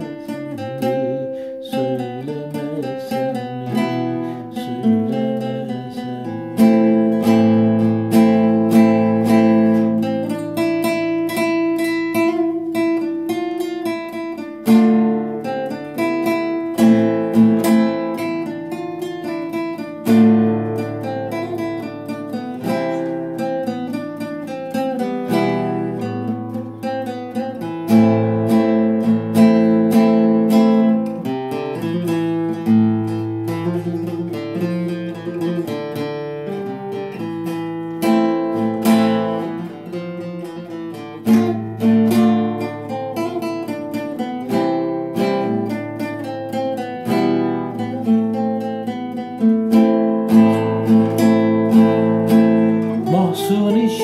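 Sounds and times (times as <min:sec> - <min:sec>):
classical guitar playing: 0:00.0 - 0:54.0.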